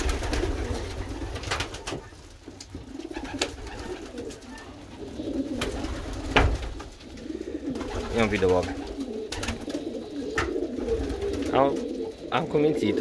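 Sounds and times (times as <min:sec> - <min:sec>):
pigeon cooing low: 0:00.0 - 0:13.0.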